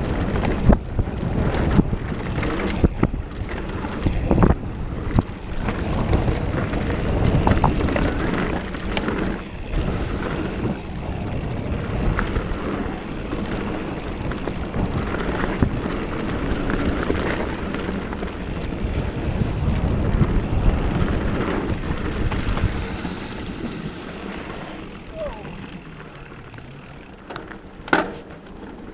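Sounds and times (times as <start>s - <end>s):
wind on microphone: 0.0s - 17.4s, 18.2s - 25.9s
bike clicks and knocks: 0.0s - 28.9s
tire rumble: 0.0s - 28.9s.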